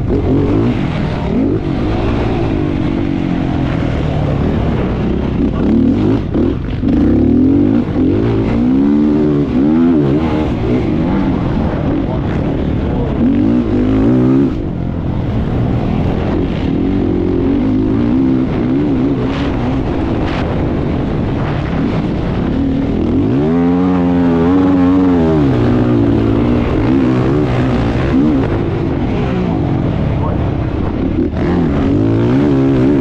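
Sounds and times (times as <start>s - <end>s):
racing engine revving: 0.0s - 33.0s.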